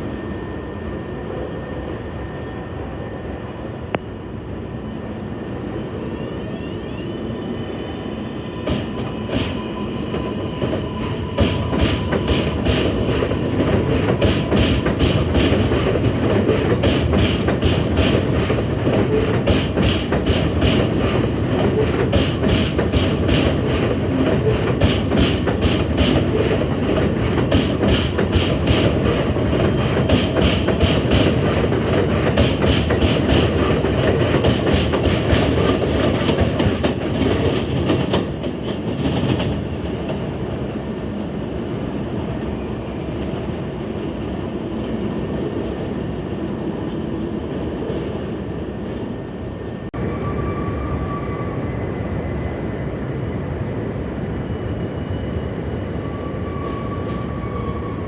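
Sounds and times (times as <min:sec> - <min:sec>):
subway train wheels clattering: 0:00.0 - 0:58.0
train rumble with high whine: 0:00.0 - 0:58.0.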